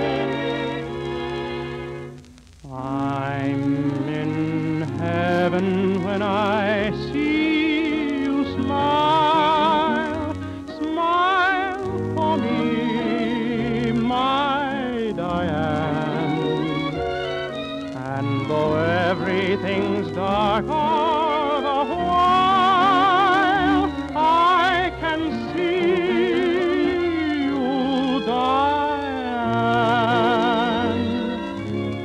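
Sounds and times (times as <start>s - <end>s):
tenor singing a ballad: 0.0s - 2.0s, 2.6s - 32.0s
orchestra playing: 0.0s - 2.2s, 3.2s - 32.0s.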